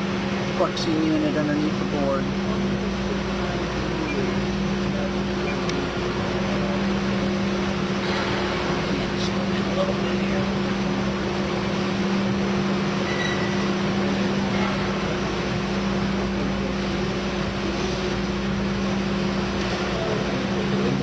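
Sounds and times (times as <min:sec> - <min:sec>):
soldering machine hum: 0:00.0 - 0:21.0.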